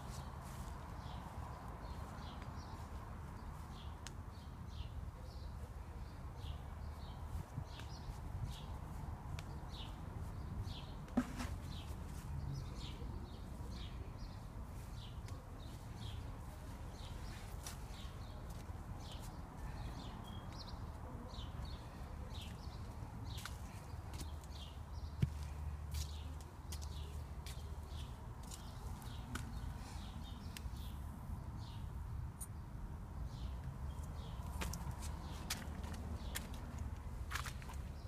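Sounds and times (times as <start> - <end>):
footsteps in garden: 0.0 - 31.8, 33.2 - 38.0.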